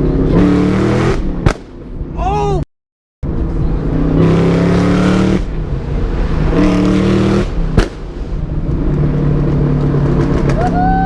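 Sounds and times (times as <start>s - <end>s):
car engine revving: 0.0s - 1.7s, 3.2s - 10.9s.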